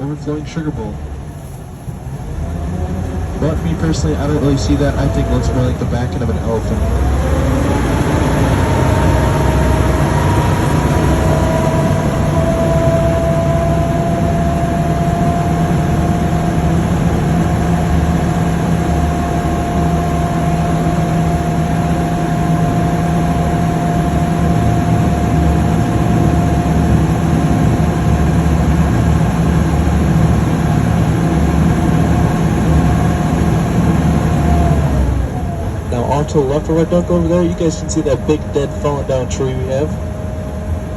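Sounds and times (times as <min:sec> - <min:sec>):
vehicle engine droning with whine: 0:00.0 - 0:40.9.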